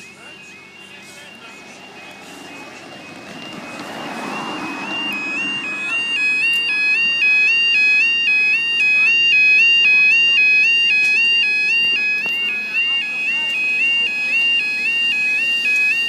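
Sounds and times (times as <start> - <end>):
level crossing alarm warble: 0.0 - 16.0
traffic noise: 0.0 - 16.0.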